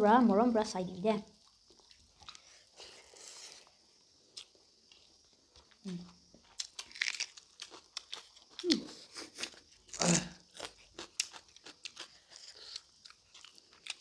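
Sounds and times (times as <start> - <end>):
chewing and crunching food: 1.0 - 14.0.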